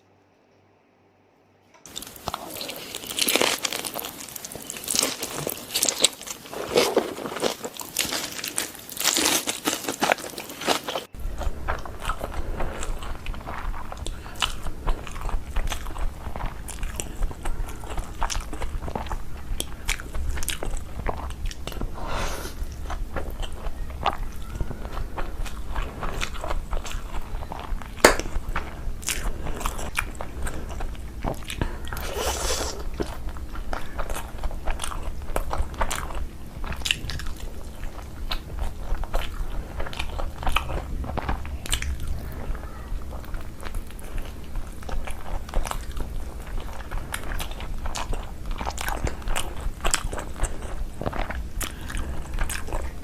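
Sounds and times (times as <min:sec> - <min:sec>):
steady low hum: 0:00.0 - 0:53.0
person chewing and crunching: 0:01.8 - 0:53.0.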